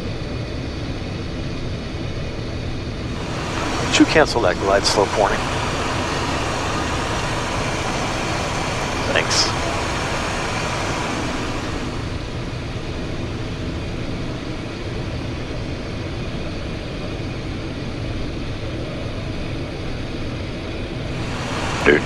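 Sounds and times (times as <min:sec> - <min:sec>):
jet cabin engine and airflow rush: 0:00.0 - 0:22.0.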